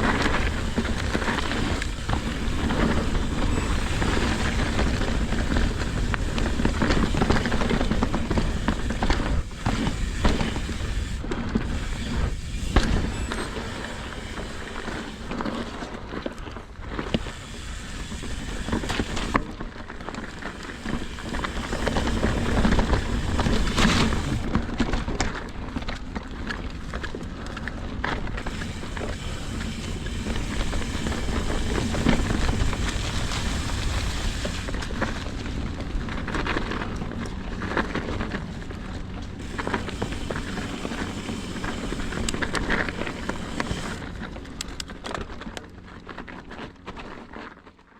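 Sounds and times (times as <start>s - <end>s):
bike knocking and rattling: 0.0s - 47.8s
bike tyres rumbling on dirt: 0.0s - 47.9s.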